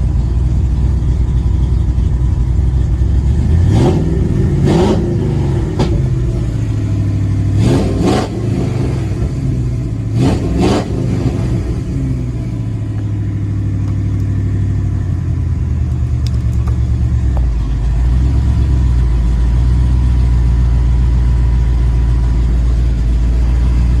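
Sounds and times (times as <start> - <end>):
rough engine idle: 0.0 - 7.6, 8.3 - 10.2, 10.9 - 24.0
truck engine revving: 0.9 - 24.0.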